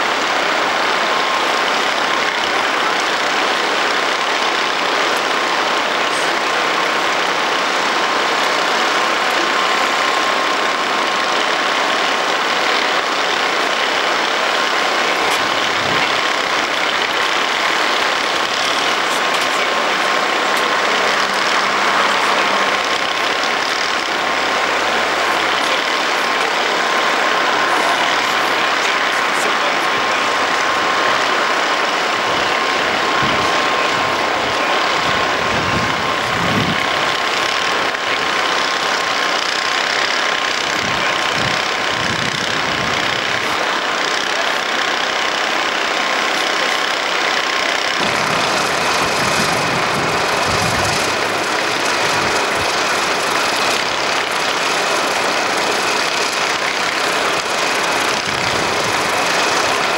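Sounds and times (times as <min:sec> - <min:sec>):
heavy diesel machinery running: 0:00.0 - 0:59.9
thin whine: 0:00.0 - 0:59.9.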